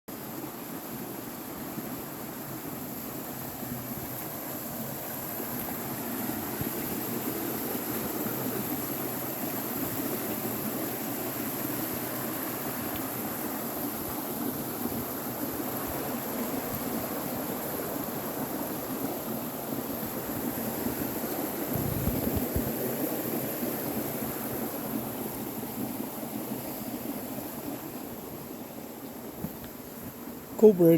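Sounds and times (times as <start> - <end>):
waterfall and stream rushing: 0.1 - 30.9.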